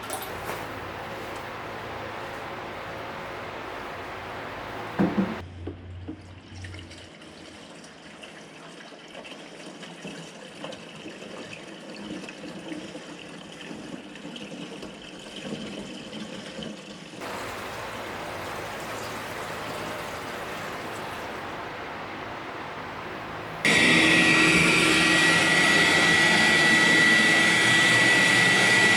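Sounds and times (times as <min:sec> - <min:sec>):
tap water running: 0:00.0 - 0:05.4, 0:06.0 - 0:28.9.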